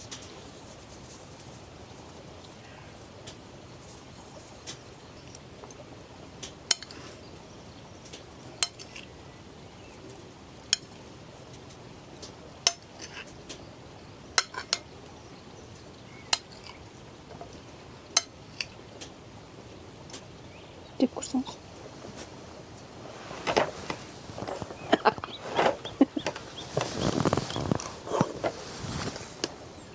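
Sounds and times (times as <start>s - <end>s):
steady background hiss: 0.0s - 29.9s.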